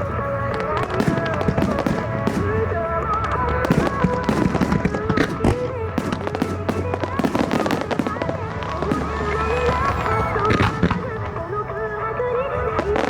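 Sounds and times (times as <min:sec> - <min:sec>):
fireworks bursting and crackling: 0:00.0 - 0:11.9
pop music with singing: 0:00.0 - 0:13.0.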